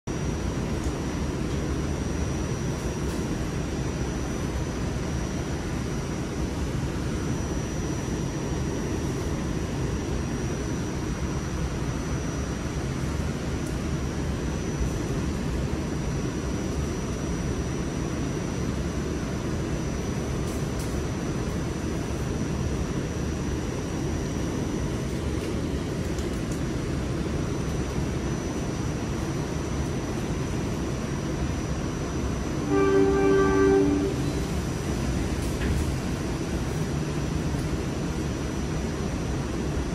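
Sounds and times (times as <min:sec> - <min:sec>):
high steady whine: 0:00.0 - 0:39.9
subway car low rumble: 0:00.0 - 0:39.9.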